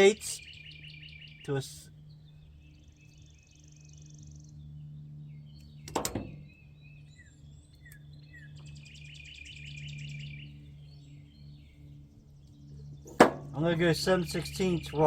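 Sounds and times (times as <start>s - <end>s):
low steady hum: 0.0s - 15.0s
songbirds chirping and trilling: 0.0s - 15.0s.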